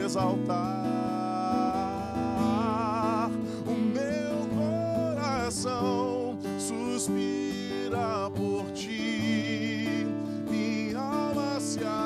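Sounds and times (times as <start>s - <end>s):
instrumental accompaniment: 0.0s - 12.0s
man singing with vibrato: 0.0s - 12.0s.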